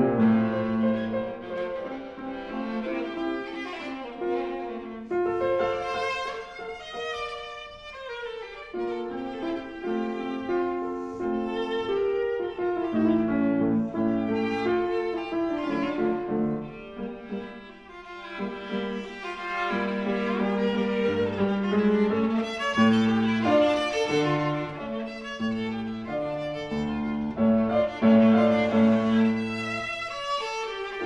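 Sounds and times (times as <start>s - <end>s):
piano accompaniment: 0.0s - 31.0s
viola bowed notes: 0.0s - 31.0s.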